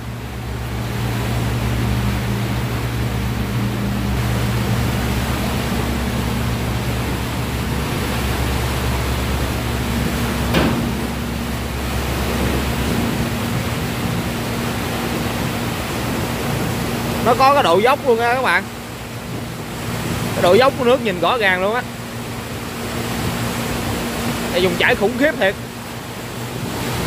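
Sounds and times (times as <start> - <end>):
low hum: 0.0 - 24.5
turbulent water rushing: 0.0 - 27.0.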